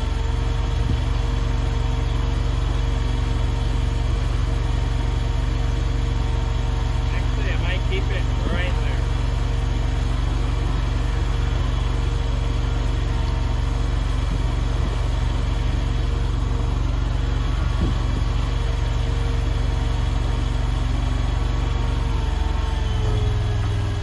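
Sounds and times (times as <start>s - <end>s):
loader engine running: 0.0s - 24.0s.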